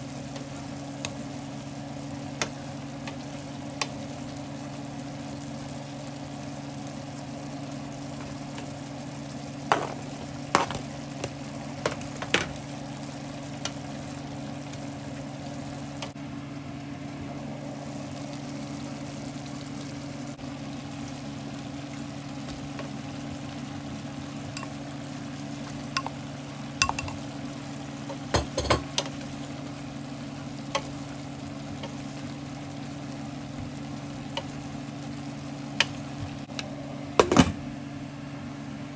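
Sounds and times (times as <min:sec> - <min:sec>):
stew simmering with sizzle: 0:00.0 - 0:38.9.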